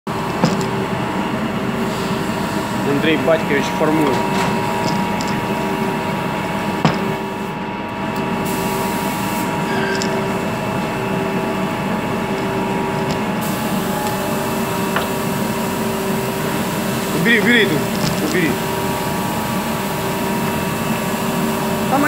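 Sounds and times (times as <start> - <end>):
clay-forming machine motor hum: 0.1 - 22.0.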